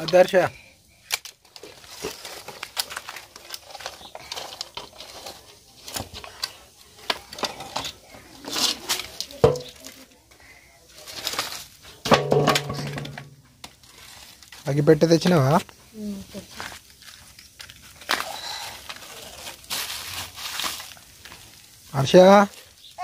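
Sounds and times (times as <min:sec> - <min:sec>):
charcoal lumps scraping and clinking: 0:00.0 - 0:10.1, 0:10.9 - 0:15.7, 0:16.3 - 0:23.0.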